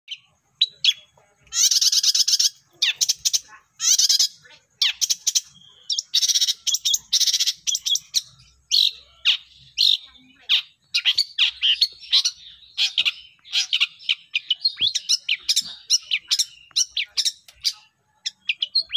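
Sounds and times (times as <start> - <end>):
bird harsh rasping chatter: 0.1 - 18.9.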